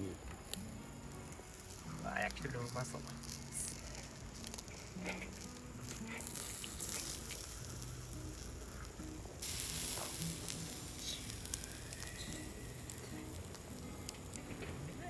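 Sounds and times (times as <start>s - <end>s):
campfire crackles: 0.0s - 15.0s
meat sizzling over fire: 0.0s - 15.0s.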